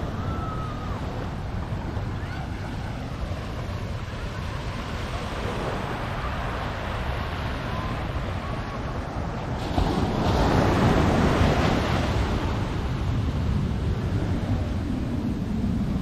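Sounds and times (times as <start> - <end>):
surf: 0.0 - 16.0
wind buffeting microphone: 0.0 - 16.0.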